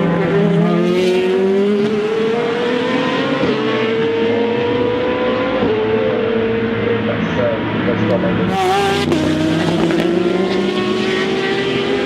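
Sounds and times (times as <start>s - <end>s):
race car engine accelerating: 0.0s - 12.0s.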